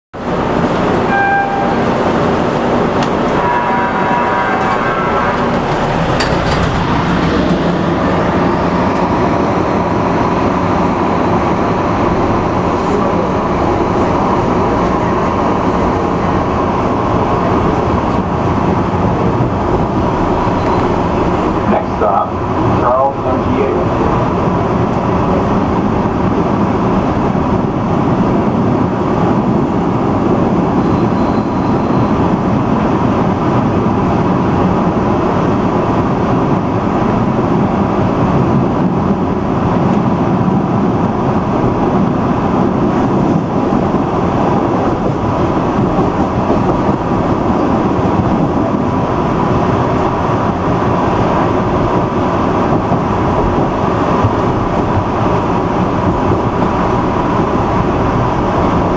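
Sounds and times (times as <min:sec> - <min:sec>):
subway car rumbling on rails: 0:00.1 - 0:58.9.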